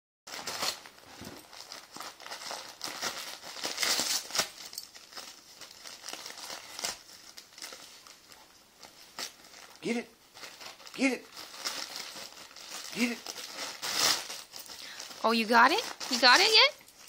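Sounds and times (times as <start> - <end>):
wrapping paper crinkling and tearing: 0.3 - 17.0.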